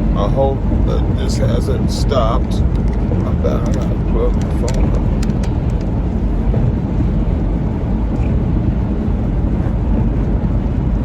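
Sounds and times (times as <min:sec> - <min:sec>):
road and engine noise in van: 0:00.0 - 0:11.0.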